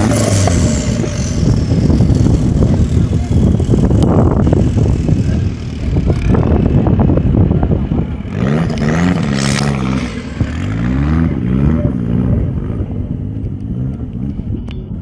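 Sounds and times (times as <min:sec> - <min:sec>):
buggy engine revving hard: 0:00.0 - 0:14.5.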